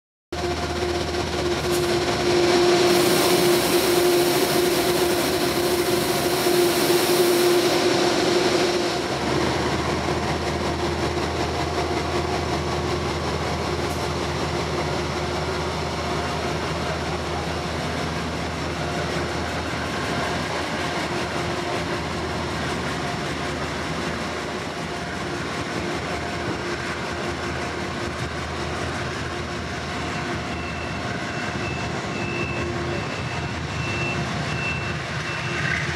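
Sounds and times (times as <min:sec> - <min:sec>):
diesel locomotive engine drone: 0:00.3 - 0:35.9
train cars rumbling by: 0:00.3 - 0:35.9.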